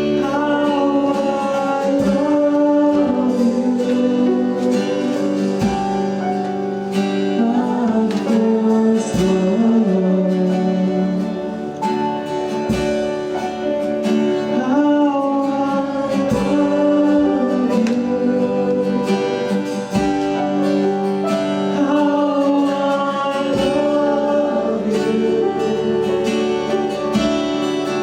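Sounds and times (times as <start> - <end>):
guitar accompaniment: 0.0 - 28.0
person singing worship song: 0.0 - 28.0.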